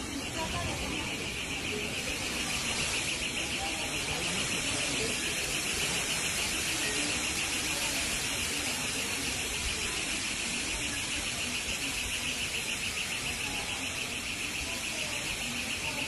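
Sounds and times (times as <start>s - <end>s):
high-pitched electronic alarm pulsing: 0.0s - 16.0s
street noise: 0.0s - 16.0s.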